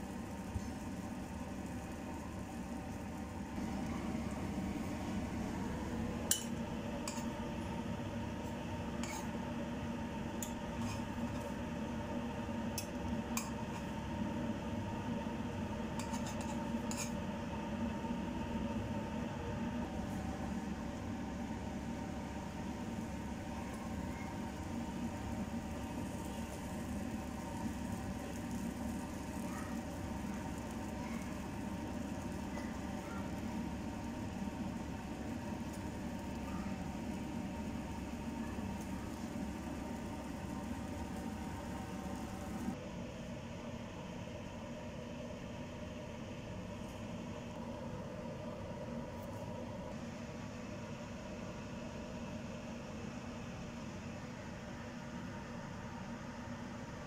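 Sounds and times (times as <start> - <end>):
kitchen background hum: 0.0 - 57.0.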